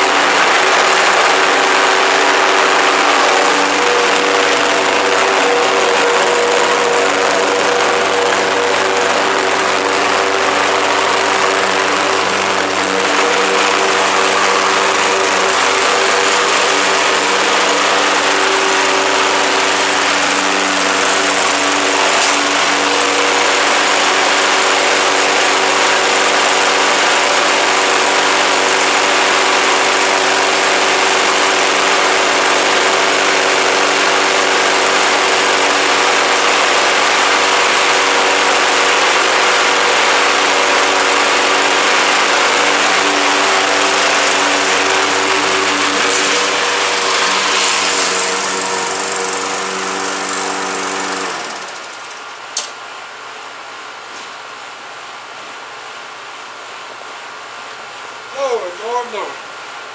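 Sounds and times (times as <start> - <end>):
push mower engine running: 0.0 - 52.3.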